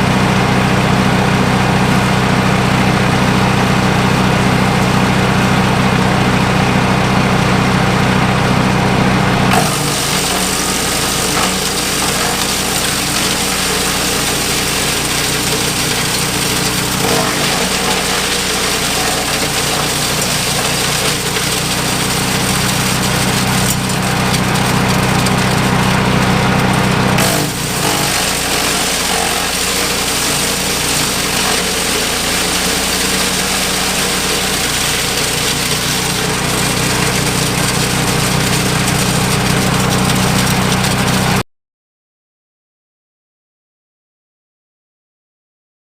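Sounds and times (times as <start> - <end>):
wood chipper engine running: 0.0 - 41.4.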